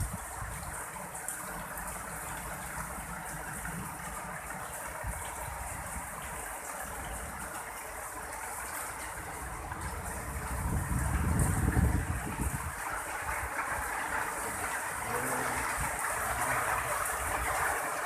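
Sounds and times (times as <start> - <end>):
heavy rain pouring: 0.0 - 18.0
low rumble of wind: 0.0 - 18.0.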